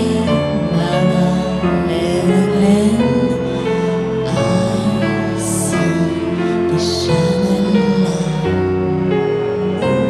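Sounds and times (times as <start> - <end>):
slow sustained music notes: 0.0 - 10.0.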